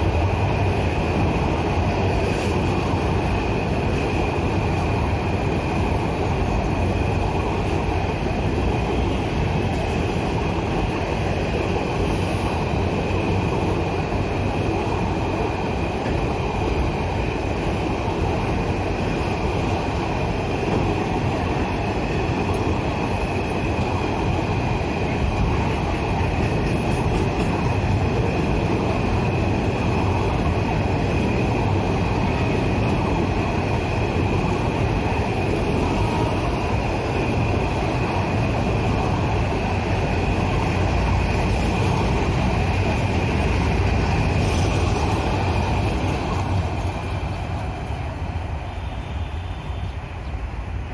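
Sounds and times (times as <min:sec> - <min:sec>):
constant high whine: 0:00.0 - 0:50.9
train wheels rumbling on rails: 0:00.0 - 0:50.9.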